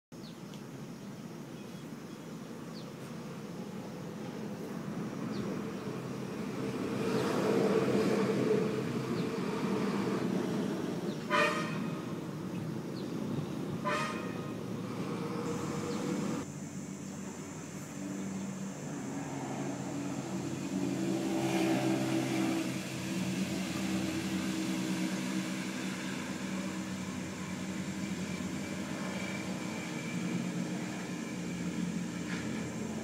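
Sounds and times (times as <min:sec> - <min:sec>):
high hiss: 0:00.2 - 0:33.0
engine running: 0:03.6 - 0:33.0.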